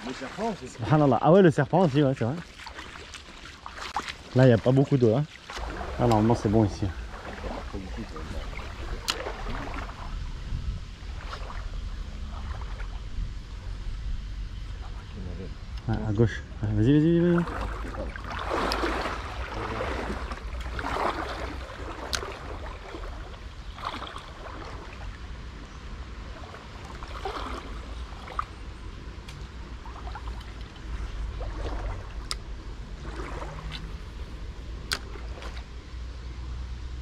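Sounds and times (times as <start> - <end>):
river water sloshing around legs: 0.0 - 13.9, 14.5 - 15.9, 16.7 - 36.2.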